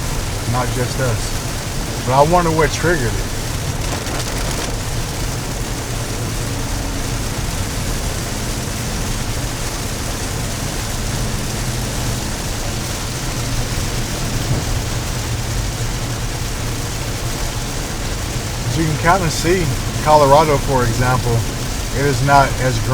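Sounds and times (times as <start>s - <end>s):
car and road rumble: 0.0s - 22.9s
rain hiss: 0.0s - 22.9s.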